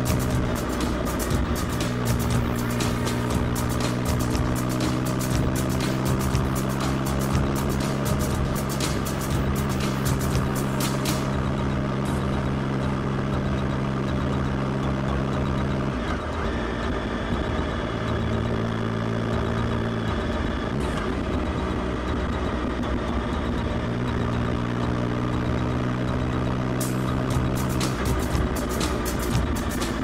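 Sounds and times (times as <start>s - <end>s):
motorcycle engine drone: 0.0s - 30.0s
road noise: 0.0s - 30.0s.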